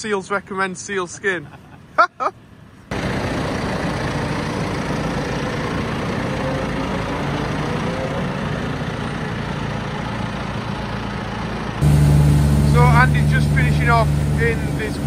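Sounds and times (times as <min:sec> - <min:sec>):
tractor engine drone: 0:02.8 - 0:15.0.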